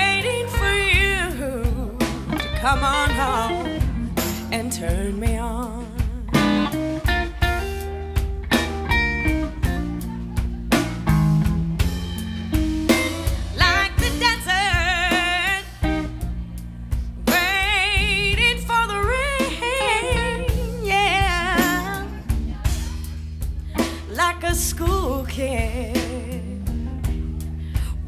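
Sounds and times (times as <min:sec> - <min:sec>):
live blues band playing: 0:00.0 - 0:28.0.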